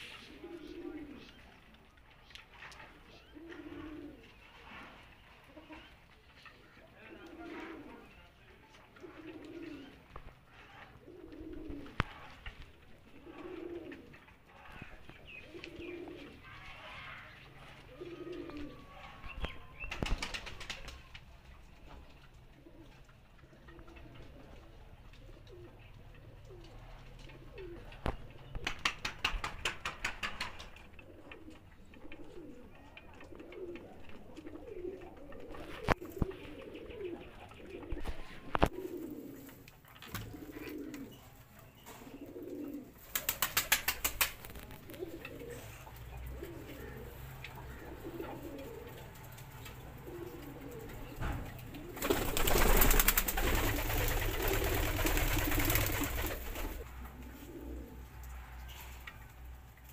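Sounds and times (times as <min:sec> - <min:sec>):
pigeons cooing: 0:00.0 - 0:01.7, 0:02.5 - 0:21.0, 0:22.2 - 0:59.0.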